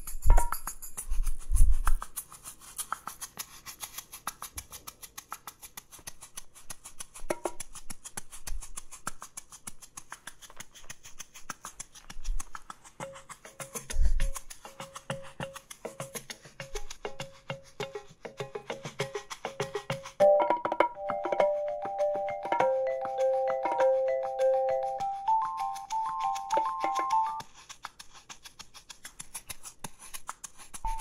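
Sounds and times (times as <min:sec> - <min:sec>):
soft fast ticking: 0:00.0 - 0:31.0.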